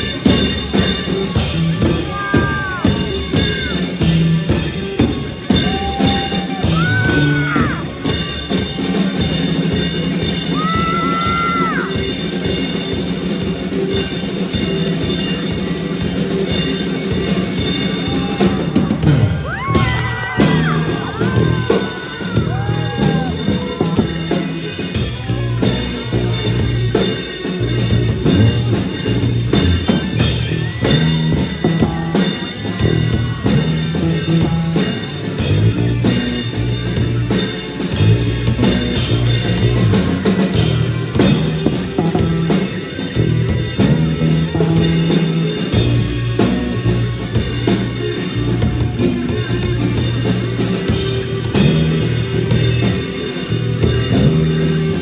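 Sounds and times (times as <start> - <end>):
bass: 0.0 - 55.0
drum kit: 0.0 - 55.0.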